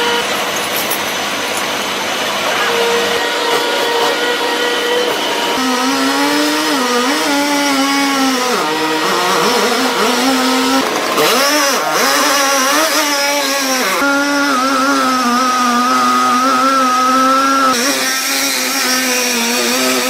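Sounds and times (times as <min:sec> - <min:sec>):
chainsaw cutting at high revs: 0:00.0 - 0:20.0.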